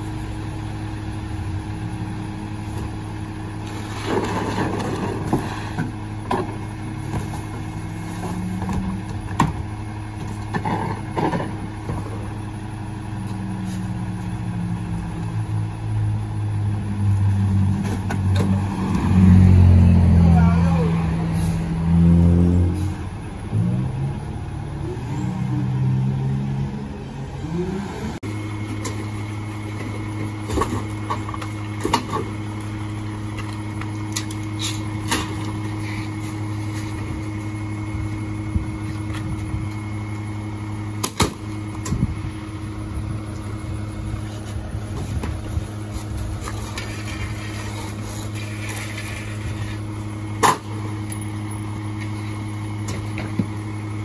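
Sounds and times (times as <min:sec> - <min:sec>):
garbage truck diesel engine: 0:00.0 - 0:54.0.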